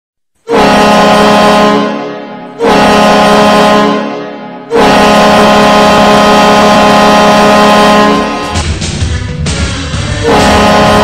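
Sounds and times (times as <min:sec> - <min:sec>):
goal horn blasts: 0:00.4 - 0:08.7, 0:10.2 - 0:11.0.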